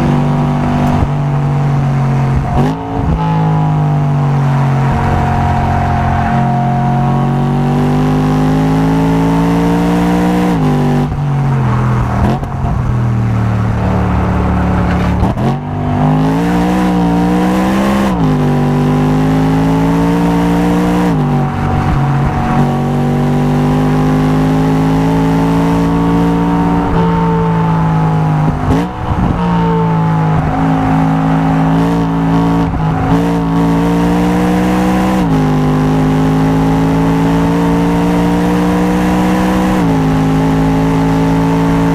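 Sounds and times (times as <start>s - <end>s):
car engine revving hard: 0.0s - 41.9s.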